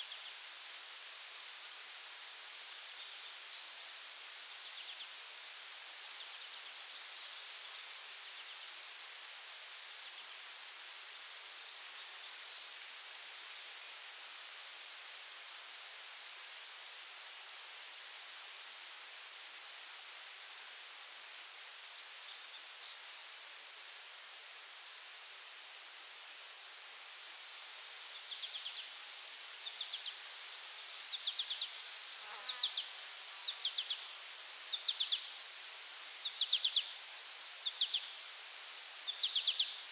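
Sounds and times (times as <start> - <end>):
soft hiss: 0.0 - 39.9
cricket chirping: 0.1 - 39.9.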